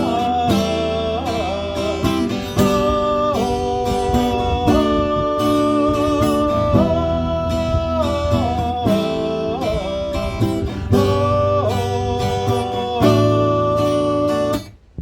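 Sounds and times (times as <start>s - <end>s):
held melody line: 0.0s - 14.8s
strummed acoustic guitar: 0.0s - 15.0s.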